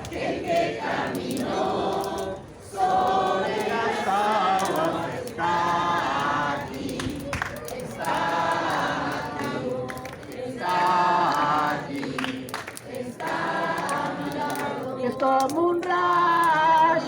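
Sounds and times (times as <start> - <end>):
crowd singing worship song: 0.0 - 17.0.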